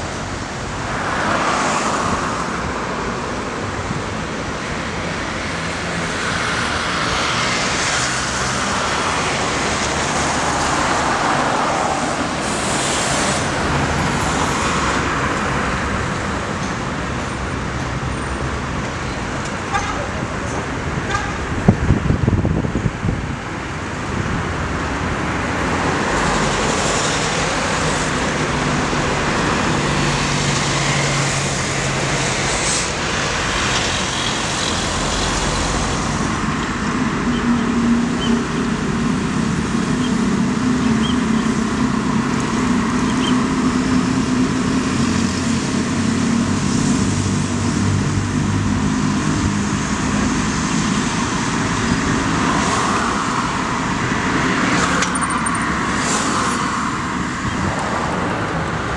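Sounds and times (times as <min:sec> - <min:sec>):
cars passing on road: 0:00.0 - 0:58.9.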